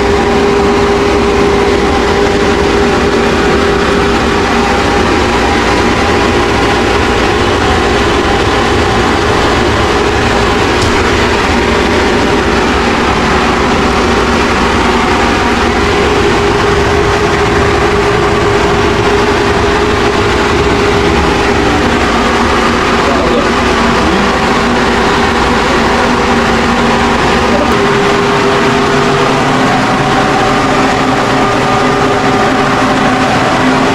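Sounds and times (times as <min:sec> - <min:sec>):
motor humming loudly: 0:00.0 - 0:33.9.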